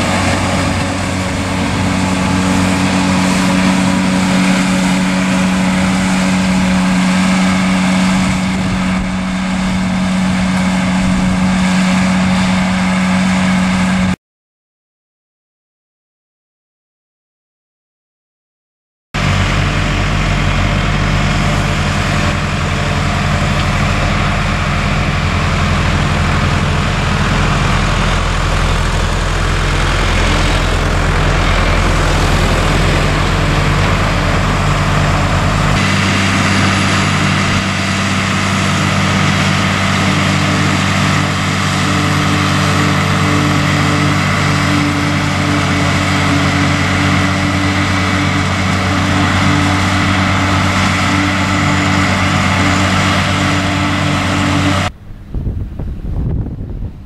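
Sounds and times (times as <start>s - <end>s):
forage harvester chopping hay: 0.0s - 14.2s, 19.2s - 54.9s
tractor diesel engine under load: 0.0s - 14.2s, 19.2s - 57.0s.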